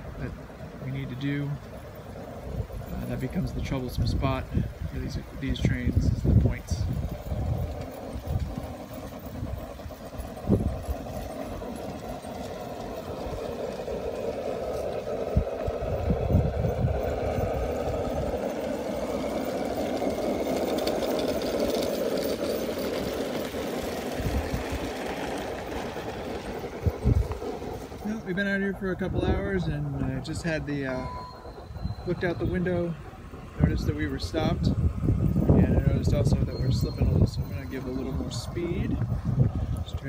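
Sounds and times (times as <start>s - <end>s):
model locomotive motor hum: 0.0s - 40.0s.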